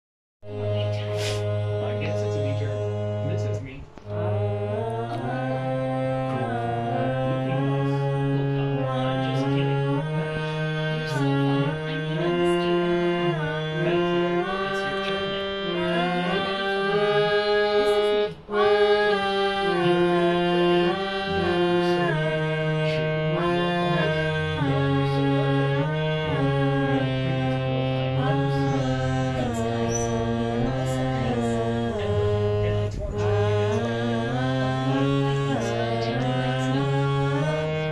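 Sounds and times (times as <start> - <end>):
harmonium melody: 0.4 - 37.9.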